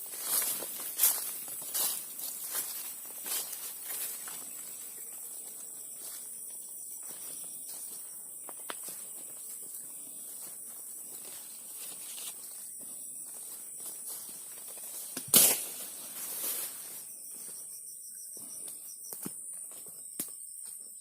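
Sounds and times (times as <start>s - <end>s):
high-pitched insect drone: 0.1s - 15.1s, 15.8s - 21.0s.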